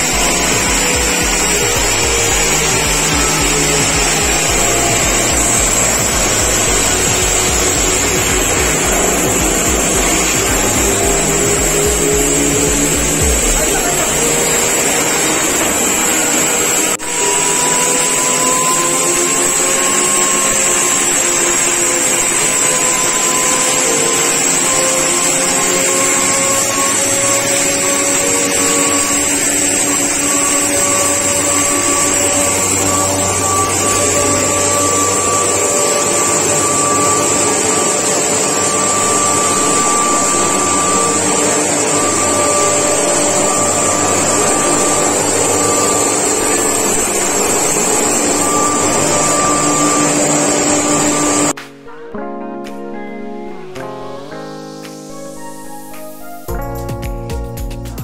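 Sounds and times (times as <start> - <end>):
grinder motor whining: 0.0 - 51.6.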